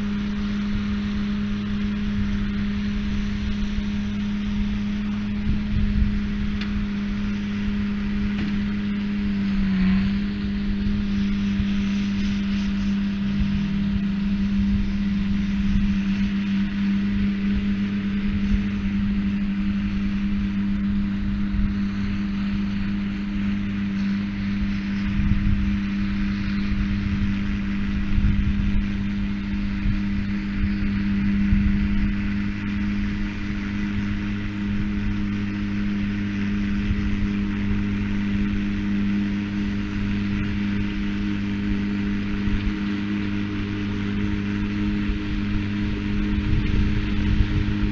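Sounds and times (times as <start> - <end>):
tractor engine droning: 0.0 - 47.9.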